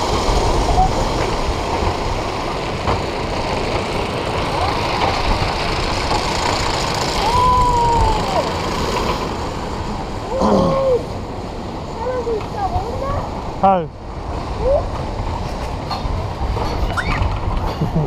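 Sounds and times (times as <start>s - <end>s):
roller coaster car rumbling rattle: 0.0s - 18.0s.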